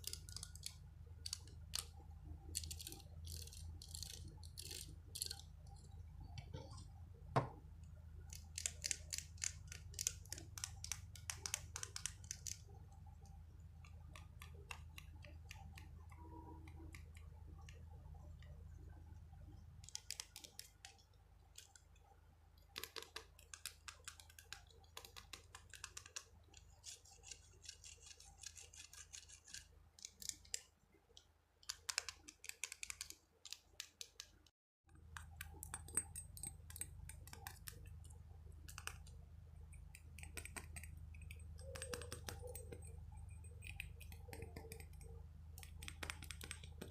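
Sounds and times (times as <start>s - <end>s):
low steady hum: 0.0s - 31.7s, 34.9s - 46.9s
tapping and scratching clicks: 0.0s - 46.9s.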